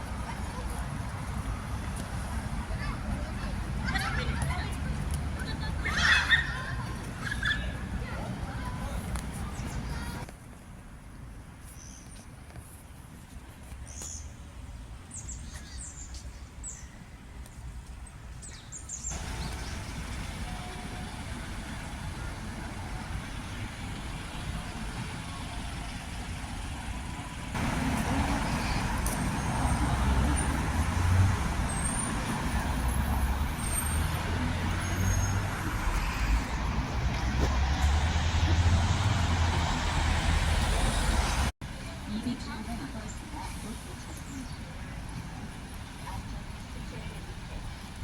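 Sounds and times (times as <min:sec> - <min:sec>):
road traffic hum: 0:00.0 - 0:48.0.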